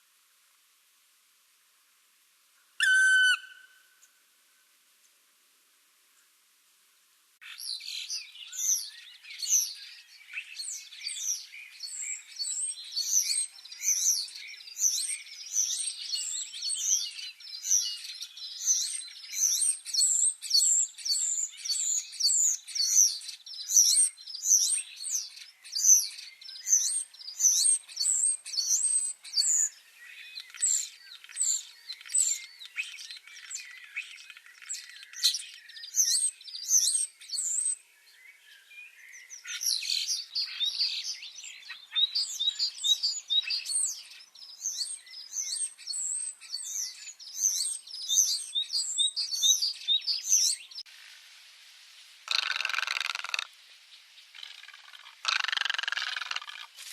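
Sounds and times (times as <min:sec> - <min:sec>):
songbirds chirping: 0:01.8 - 0:56.9.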